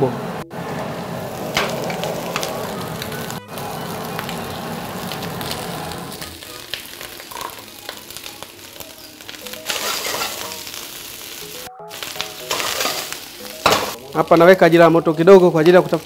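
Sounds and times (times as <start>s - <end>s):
rice sizzling in oil in a wok: 0.5s - 16.0s.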